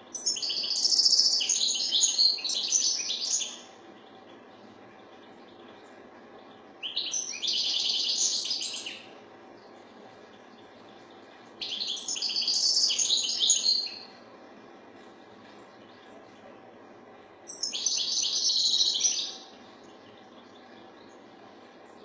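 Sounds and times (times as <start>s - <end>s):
finch twittering song: 0.1s - 14.2s, 17.5s - 22.0s.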